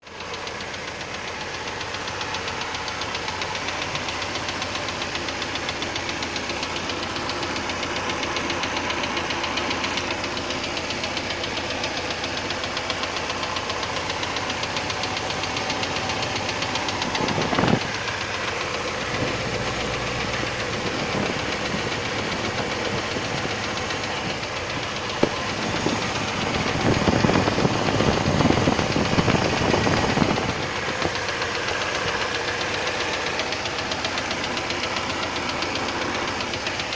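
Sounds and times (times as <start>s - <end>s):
petrol engine running with knock: 0.0s - 36.9s.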